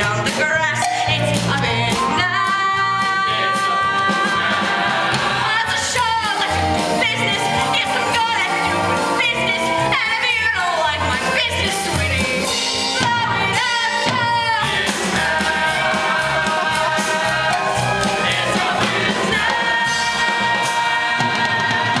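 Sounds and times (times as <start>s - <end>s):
band accompaniment: 0.0s - 22.0s
woman singing: 0.0s - 22.0s.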